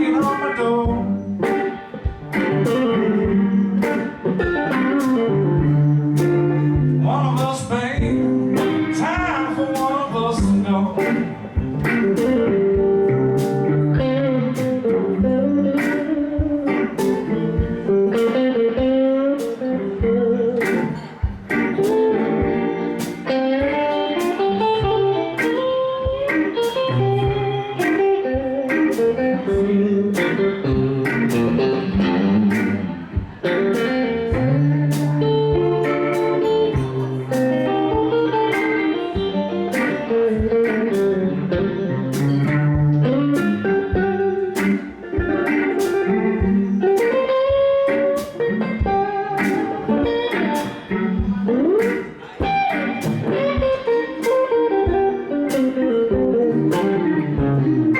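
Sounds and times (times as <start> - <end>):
bass: 0.0 - 23.2, 24.2 - 25.6, 26.8 - 52.2, 52.9 - 53.8, 55.5 - 57.9
drums with steady beat: 0.0 - 57.9
electric guitar: 0.0 - 57.9.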